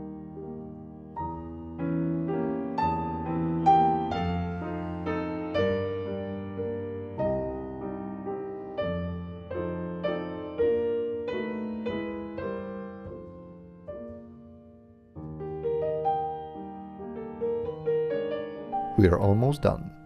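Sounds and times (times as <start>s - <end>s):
slow gentle piano notes: 0.0s - 20.0s.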